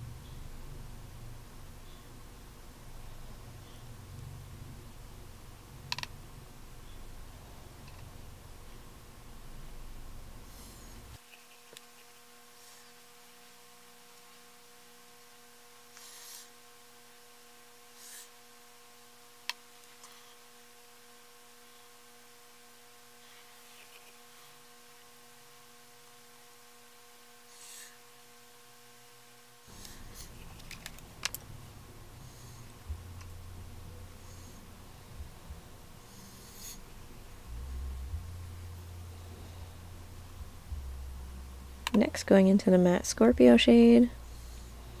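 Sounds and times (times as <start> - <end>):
faint mains hum: 0.0 - 45.0.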